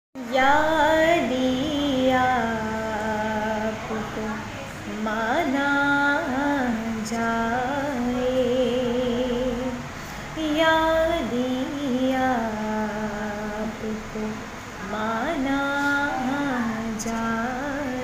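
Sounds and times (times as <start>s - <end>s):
woman singing unaccompanied: 0.2s - 18.0s.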